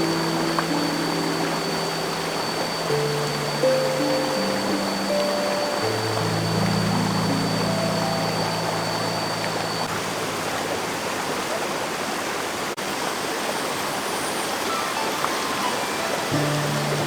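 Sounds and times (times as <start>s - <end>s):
stream flowing water: 0.0s - 17.0s.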